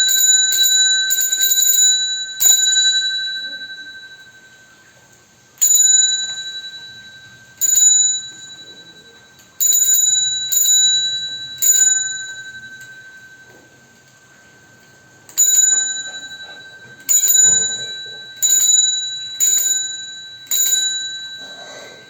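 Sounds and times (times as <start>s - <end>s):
bicycle bell ringing: 0.0s - 22.0s.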